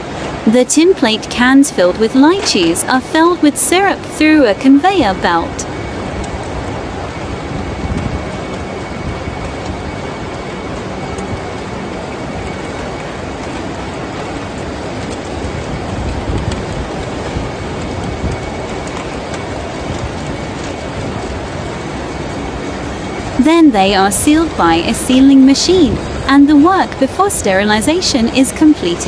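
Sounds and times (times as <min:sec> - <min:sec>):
filling line machinery din: 0:00.0 - 0:29.0.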